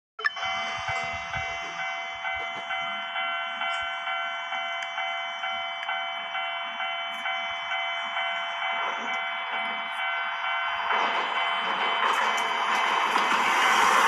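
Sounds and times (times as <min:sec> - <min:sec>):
level crossing alarm bell ringing: 0:00.2 - 0:14.0.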